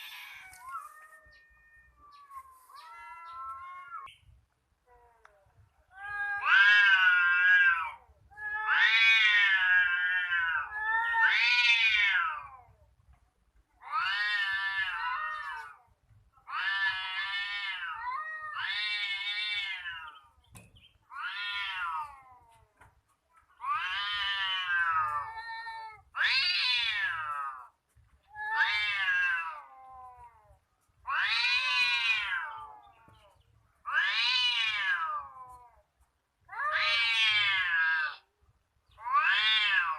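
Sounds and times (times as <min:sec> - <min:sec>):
cats yowling: 0:00.0 - 0:04.1, 0:04.9 - 0:12.7, 0:13.8 - 0:15.8, 0:16.4 - 0:20.2, 0:21.1 - 0:22.8, 0:23.4 - 0:27.7, 0:28.3 - 0:35.8, 0:36.5 - 0:38.3, 0:39.0 - 0:39.9.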